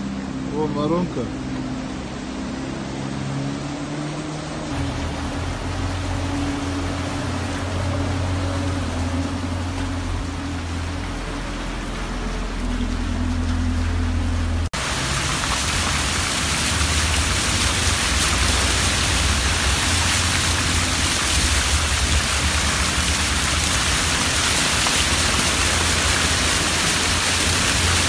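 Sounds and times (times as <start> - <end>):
car driving through floodwater: 0.0 - 28.0.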